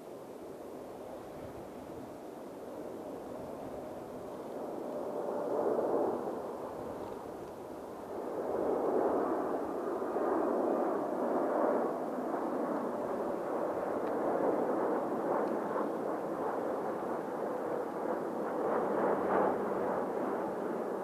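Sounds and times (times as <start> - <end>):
jet engines roaring: 2.8 - 21.0.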